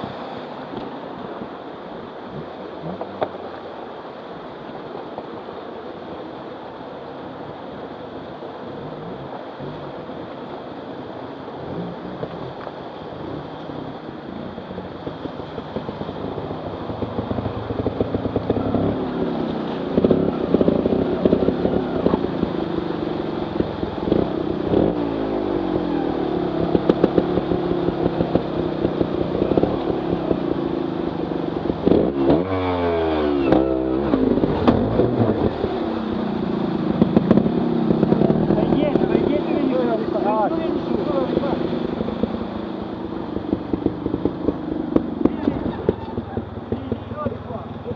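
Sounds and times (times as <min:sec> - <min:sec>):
waterfall rushing: 0:00.0 - 0:47.9
motorcycle engine revving: 0:08.2 - 0:47.9.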